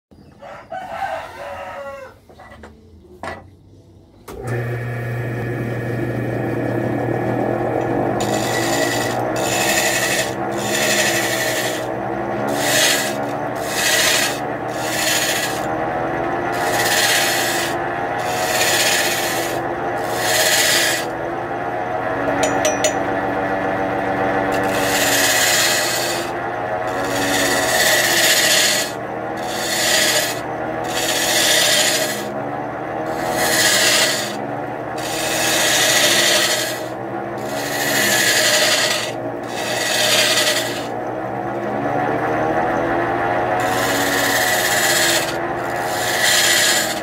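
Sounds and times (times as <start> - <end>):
electric wood lathe humming: 4.3 - 47.0
gouge cutting spinning log: 4.3 - 47.0.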